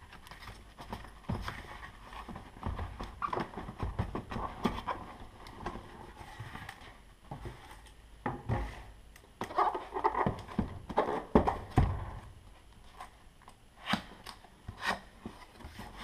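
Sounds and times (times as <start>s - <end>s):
cardboard rustling and scraping: 0.1s - 13.2s, 14.7s - 16.0s.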